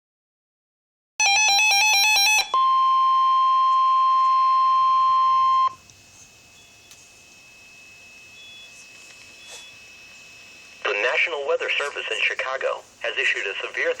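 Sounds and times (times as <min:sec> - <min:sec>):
steady alarm tone: 0:01.2 - 0:13.7.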